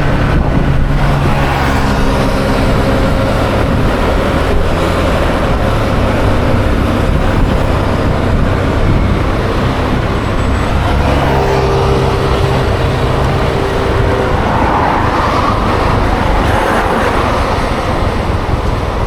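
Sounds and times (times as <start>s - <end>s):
road and wind noise hiss: 0.0s - 19.0s
scooter engine running: 0.0s - 19.0s.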